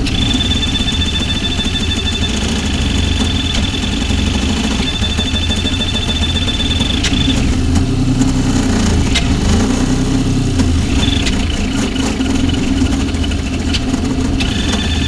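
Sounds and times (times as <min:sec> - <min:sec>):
sharp clicks: 0:00.0 - 0:10.0, 0:10.6 - 0:15.0
high steady whine: 0:00.0 - 0:15.0
stepper motors and fans humming: 0:00.0 - 0:15.0.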